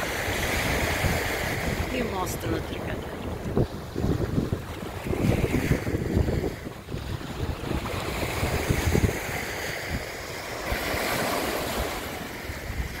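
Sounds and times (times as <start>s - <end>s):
small waves rushing on shore: 0.0s - 13.0s
wind gusting on microphone: 0.0s - 13.0s.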